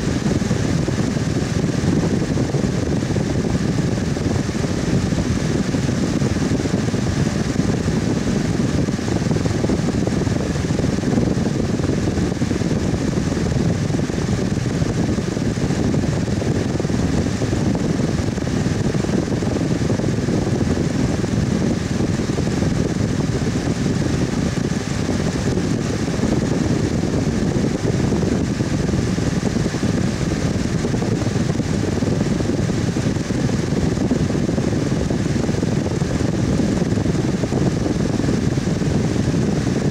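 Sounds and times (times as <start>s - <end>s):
electric fan whooshing: 0.0s - 39.9s.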